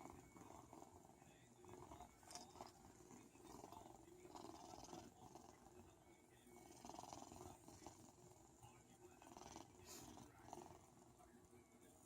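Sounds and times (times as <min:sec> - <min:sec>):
cat snoring: 0:00.0 - 0:12.0.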